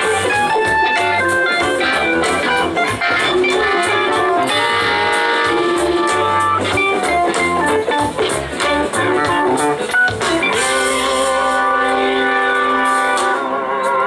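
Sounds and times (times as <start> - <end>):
drums: 0.0 - 14.0
electric guitar: 0.0 - 14.0
live blues-rock band: 0.0 - 14.0.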